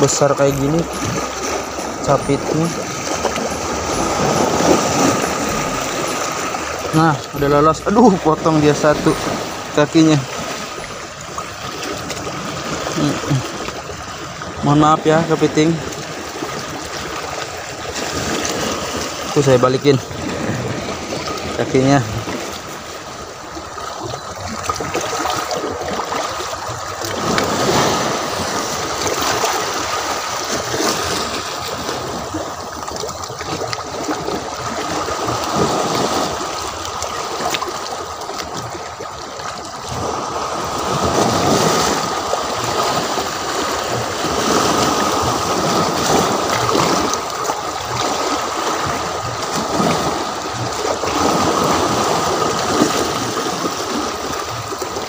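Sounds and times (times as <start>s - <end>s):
sea waves washing against rocks: 0.0s - 55.0s.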